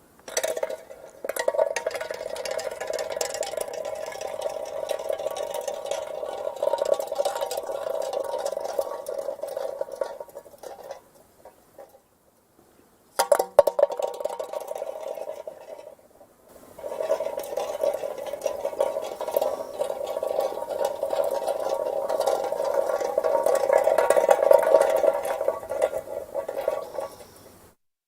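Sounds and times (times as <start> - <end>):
metal can rolling on asphalt: 0.2 - 12.1, 13.2 - 27.6.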